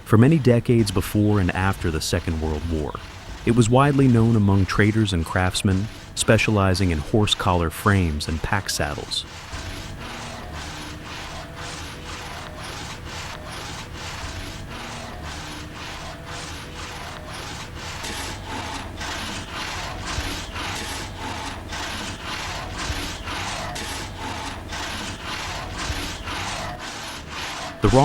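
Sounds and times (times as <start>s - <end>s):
hand saw cutting wood: 0.0s - 28.0s.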